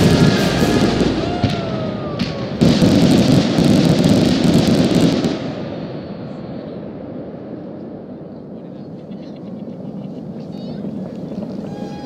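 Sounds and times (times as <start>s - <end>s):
fireworks crackling hiss: 0.0s - 8.9s, 9.7s - 12.0s
fireworks bursts rumbling: 0.0s - 12.0s.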